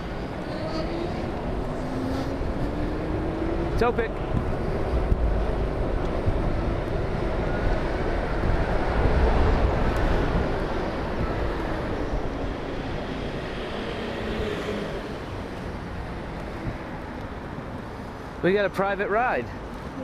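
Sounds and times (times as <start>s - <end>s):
wind rush: 0.0s - 18.4s
road noise: 0.0s - 20.0s.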